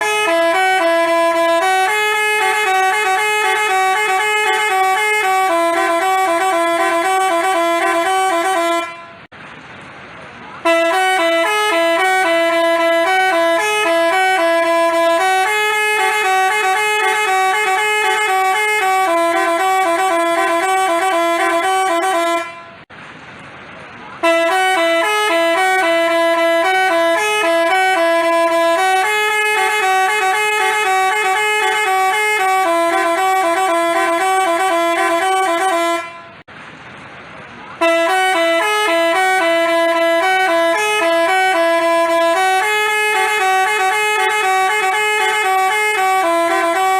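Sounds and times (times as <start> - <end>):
bus horn playing a tune: 0.0 - 9.3, 10.6 - 22.9, 24.2 - 36.5, 37.8 - 46.9.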